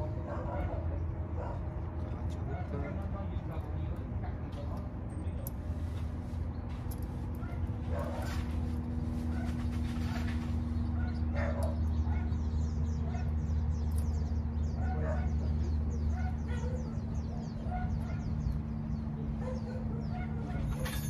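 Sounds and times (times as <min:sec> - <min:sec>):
small birds chirping: 0:00.0 - 0:20.9
steady low hum: 0:00.0 - 0:21.0.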